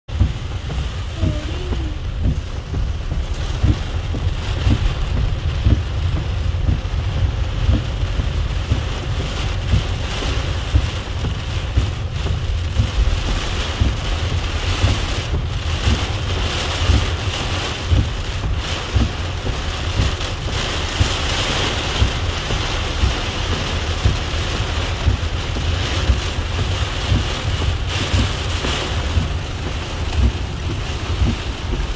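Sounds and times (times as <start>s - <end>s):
heavy rain on car roof: 0.1s - 31.9s
low rumble: 0.1s - 31.9s.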